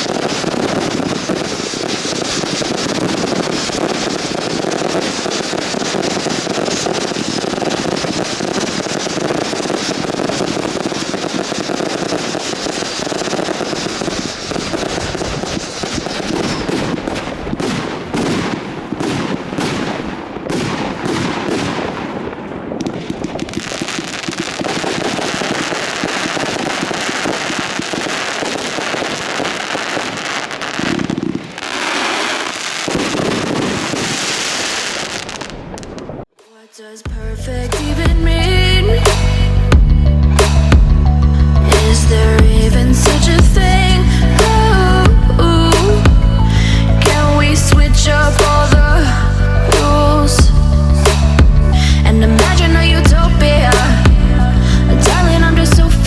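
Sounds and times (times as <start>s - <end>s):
sharp fireworks bangs: 0.0s - 36.3s, 37.7s - 56.0s
fireworks bangs and crackling: 0.0s - 36.4s, 37.1s - 56.0s.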